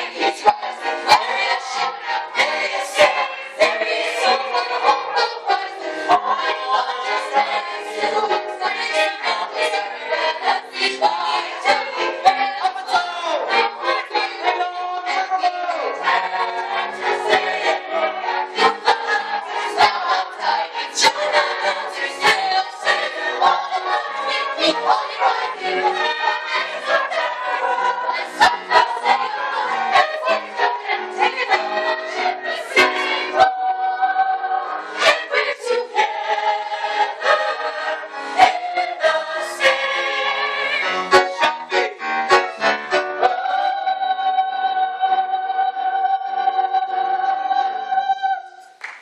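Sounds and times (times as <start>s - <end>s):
chorus singing show tune: 0.0s - 48.8s.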